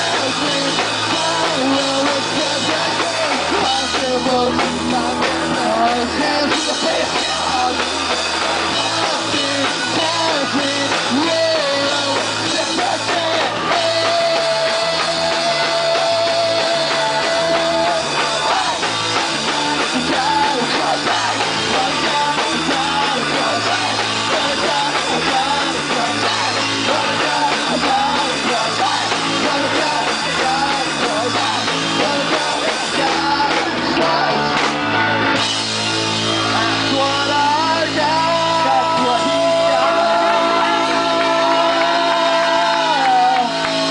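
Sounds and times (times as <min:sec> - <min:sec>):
person singing: 0:00.0 - 0:35.1, 0:36.3 - 0:43.9
distorted electric guitar: 0:00.0 - 0:43.9
drum kit beat: 0:00.0 - 0:43.9.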